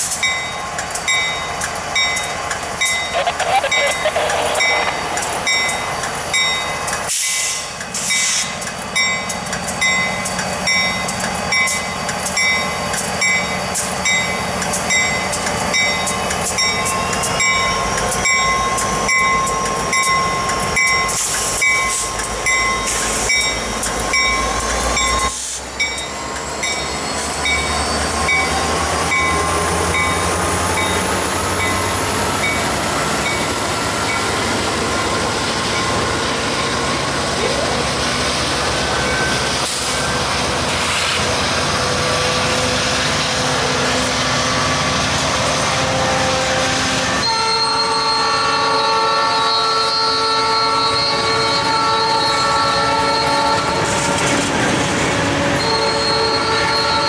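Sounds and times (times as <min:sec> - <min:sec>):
diesel locomotive engines rumbling: 0:00.0 - 0:57.0.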